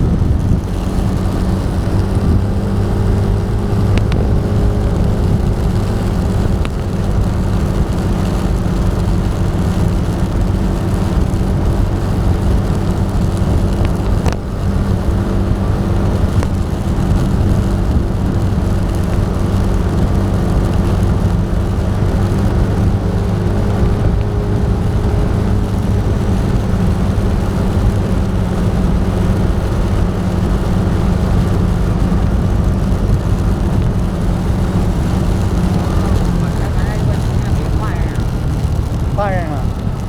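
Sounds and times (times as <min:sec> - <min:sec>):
road noise: 0:00.0 - 0:40.0
vehicle engine hum: 0:00.0 - 0:40.0.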